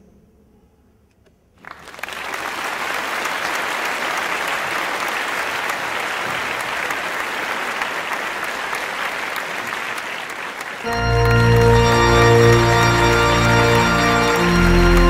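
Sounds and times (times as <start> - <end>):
guests applauding: 1.6 - 15.0.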